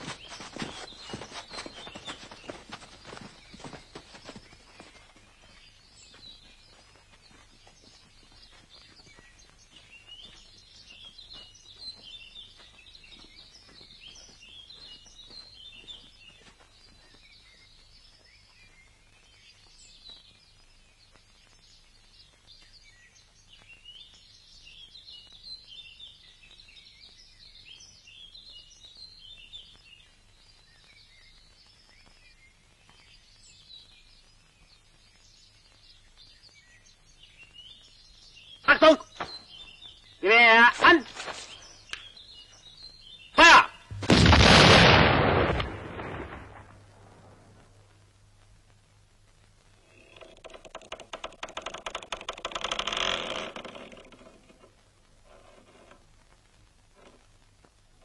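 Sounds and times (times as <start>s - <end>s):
songbirds twittering: 0.0s - 44.6s, 45.8s - 58.0s.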